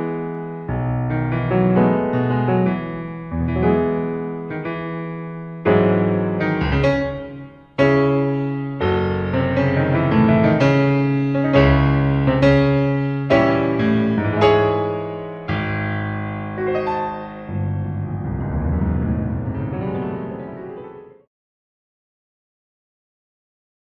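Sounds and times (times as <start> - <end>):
slow piano chords: 0.0 - 21.3.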